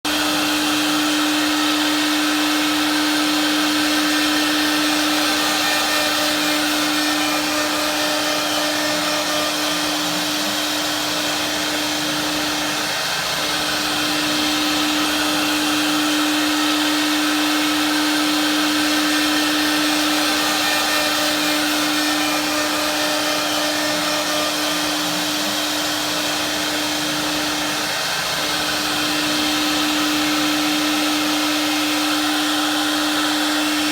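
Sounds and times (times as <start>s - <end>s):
cnc machine motor whine: 0.1s - 33.9s.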